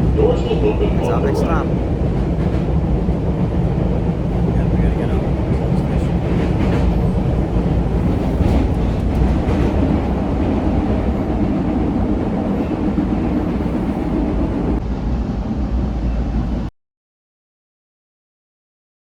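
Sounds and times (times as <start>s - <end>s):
subway car wheels rumbling: 0.0s - 16.7s.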